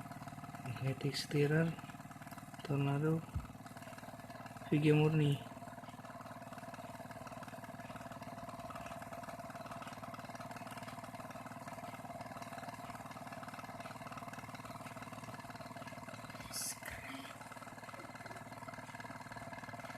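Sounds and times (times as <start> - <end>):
magnetic stirrer motor humming: 0.0 - 19.9.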